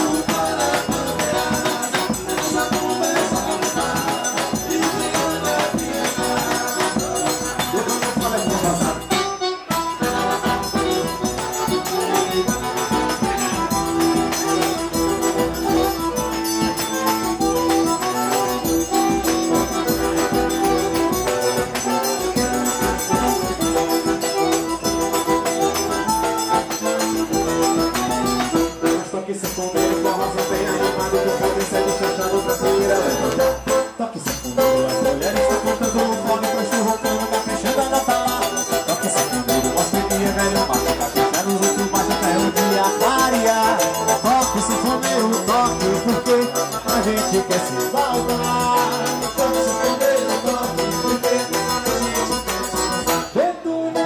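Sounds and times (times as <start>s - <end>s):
shaken percussion beat: 0.0s - 53.4s
accordion melody: 0.0s - 54.0s.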